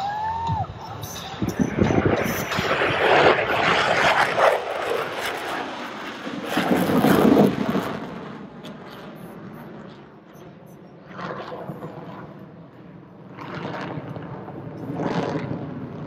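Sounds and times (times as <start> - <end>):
jet roar flying past: 0.0 - 16.0.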